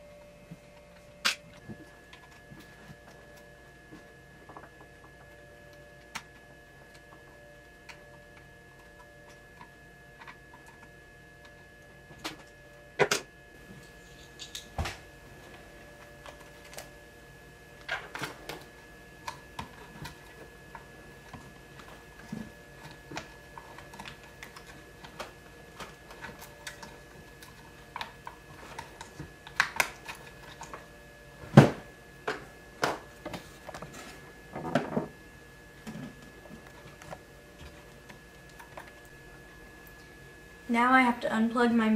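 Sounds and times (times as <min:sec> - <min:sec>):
faint high hum: 0:00.0 - 0:41.9.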